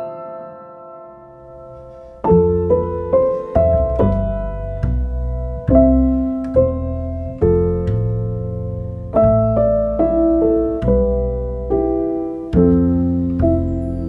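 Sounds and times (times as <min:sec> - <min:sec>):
slow calm piano music: 0:00.0 - 0:14.0.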